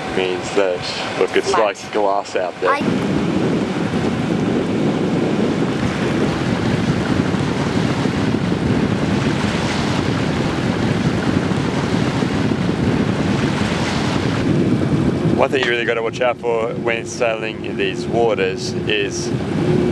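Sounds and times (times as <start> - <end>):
water rushing along hull: 0.0 - 19.9
wind noise on microphone: 0.0 - 19.9.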